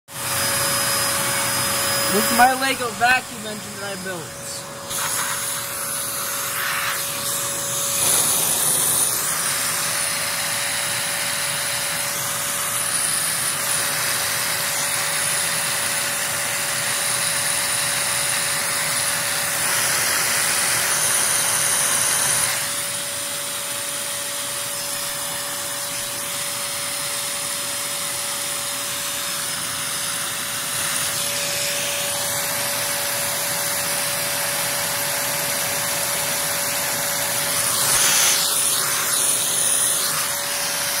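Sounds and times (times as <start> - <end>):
vacuum motor hissing and whining: 0.1 - 41.0.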